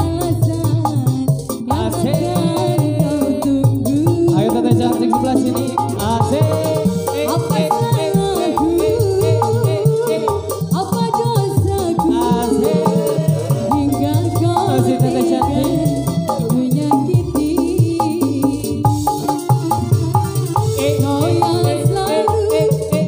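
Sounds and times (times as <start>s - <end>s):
person singing: 0.0s - 19.4s, 20.6s - 23.0s
electronic keyboard melody: 0.0s - 23.0s
hand drum beat: 0.0s - 23.0s.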